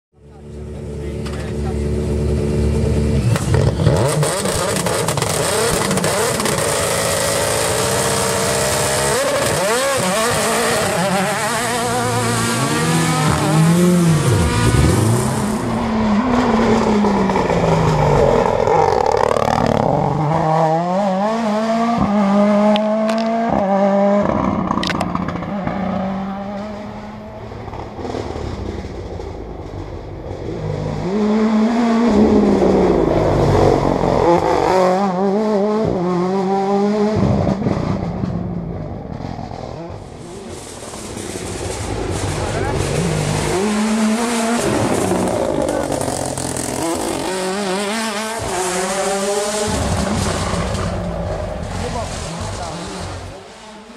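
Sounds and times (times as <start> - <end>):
rally car engine revving hard: 0.6 - 53.9.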